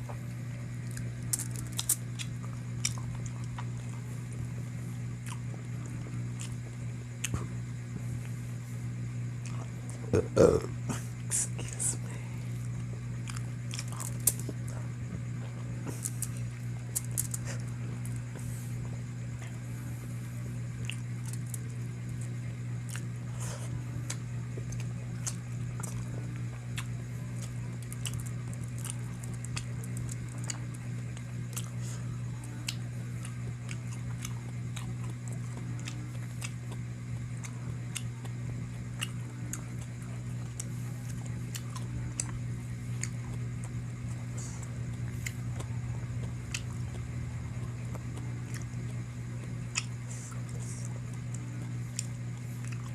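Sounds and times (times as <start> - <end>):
steady low hum: 0.0 - 52.9
person chewing food: 0.8 - 8.4, 9.4 - 19.7, 20.7 - 52.9.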